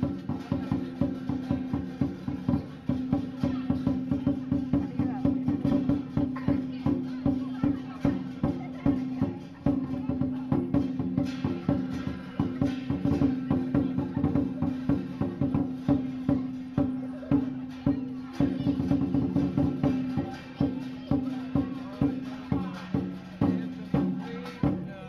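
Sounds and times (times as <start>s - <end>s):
cymbals clashing: 0.0s - 25.0s
large drum beating fast: 0.0s - 25.0s.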